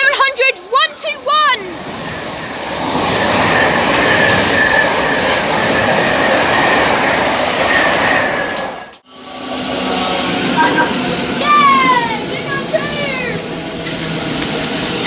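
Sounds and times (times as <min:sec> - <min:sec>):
train wheels on rails: 0:00.0 - 0:15.0
high wheel squeal: 0:01.7 - 0:15.0.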